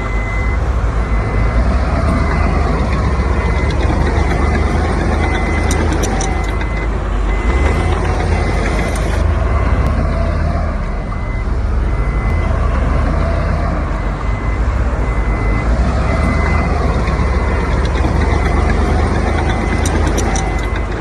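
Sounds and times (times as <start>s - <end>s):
diesel engine rumbling: 0.0s - 21.0s
reversing alarm beeping: 0.0s - 21.0s.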